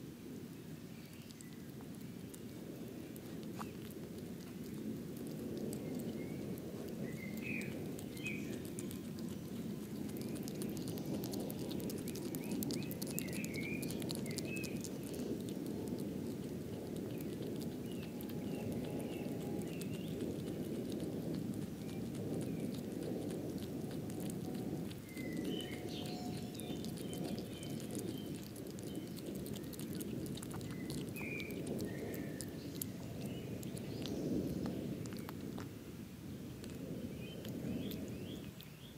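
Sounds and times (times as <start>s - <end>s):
low background noise: 0.0s - 38.9s
hedgehog chewing: 0.4s - 38.9s
bird chirping faintly: 0.6s - 35.7s, 36.3s - 38.9s.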